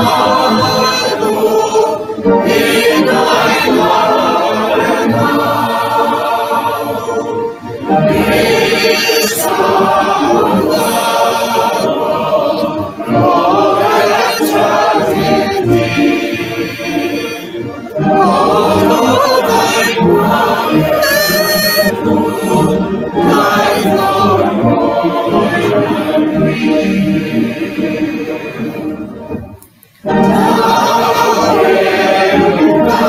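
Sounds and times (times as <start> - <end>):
congregation singing a hymn: 0.0 - 33.0.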